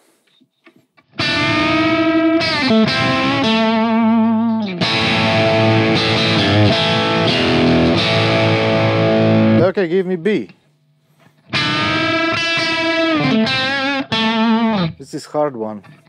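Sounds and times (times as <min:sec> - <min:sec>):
distorted electric guitar chords: 0:01.0 - 0:09.9, 0:11.2 - 0:15.2.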